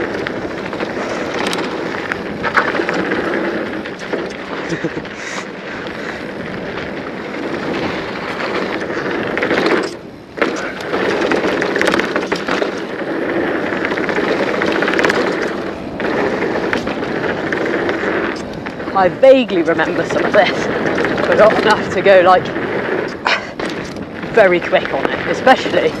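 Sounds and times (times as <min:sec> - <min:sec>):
bike frame rattling clicks: 0:00.0 - 0:19.0, 0:19.7 - 0:26.0
bike tyres on rough dirt trail: 0:00.0 - 0:26.0.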